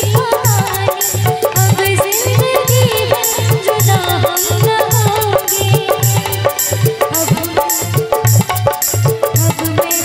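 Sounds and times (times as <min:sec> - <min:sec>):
bending melody line: 0:00.0 - 0:09.8
drum beat with cymbals: 0:00.0 - 0:10.0.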